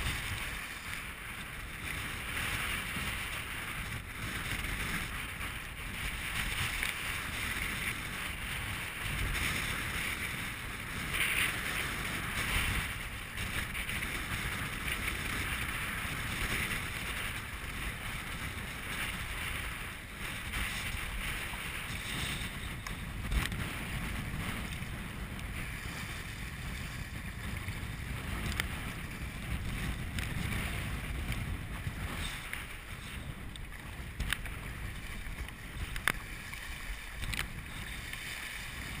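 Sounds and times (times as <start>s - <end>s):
choppy water sloshing: 0.0s - 39.0s
wind buffeting microphone: 0.0s - 39.0s.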